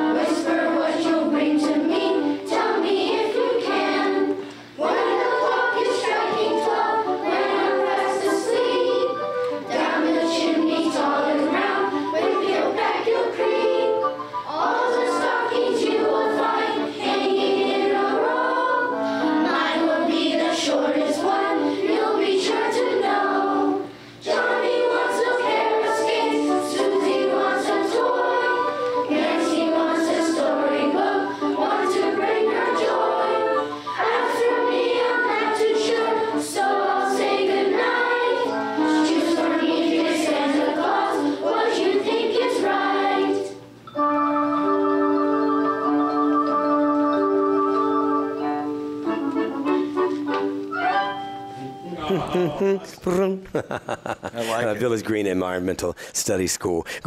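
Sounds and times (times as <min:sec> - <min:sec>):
children's choir singing: 0:00.0 - 0:51.2.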